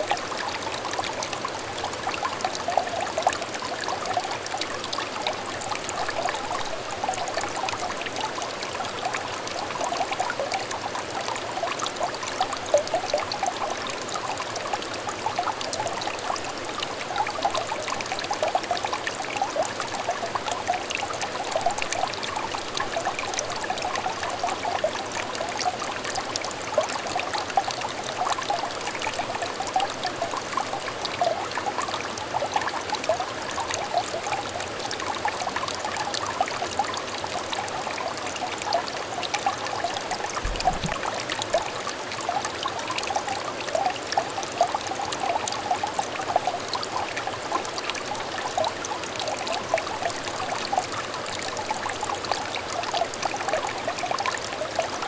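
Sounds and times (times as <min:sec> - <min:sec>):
stream trickling and babbling: 0:00.0 - 0:55.0.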